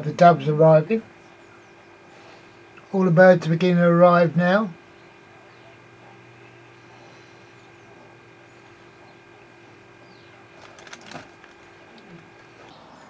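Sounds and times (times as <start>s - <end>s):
faint birds chirping: 0.0s - 13.0s
steady low hum: 0.0s - 13.0s.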